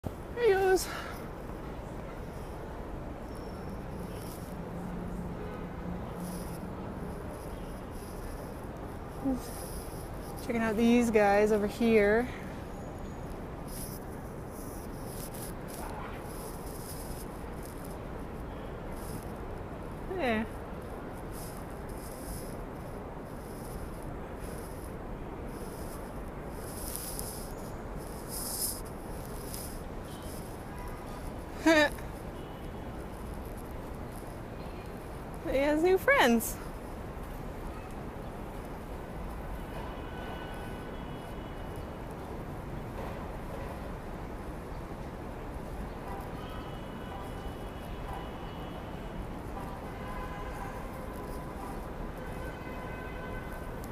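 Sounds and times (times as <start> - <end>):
outdoor background noise: 0.0 - 53.9
traffic rumble: 0.0 - 53.9.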